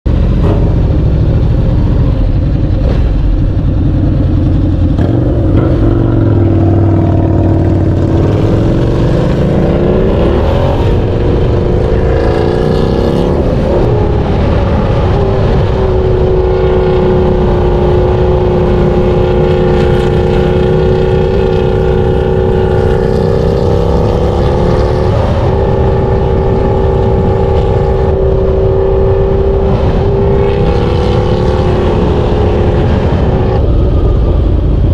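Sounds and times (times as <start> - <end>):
motorcycle engine running loud: 0.1 - 34.9.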